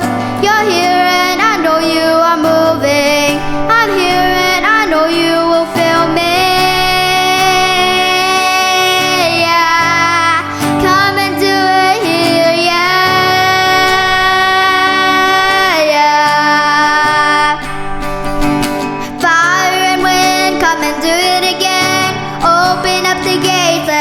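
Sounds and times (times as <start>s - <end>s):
acoustic guitar: 0.0s - 24.0s
woman singing: 0.0s - 24.0s.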